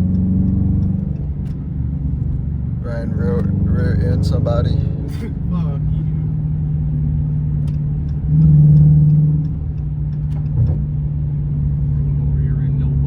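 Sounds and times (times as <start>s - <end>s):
car engine droning from inside: 0.0s - 13.0s.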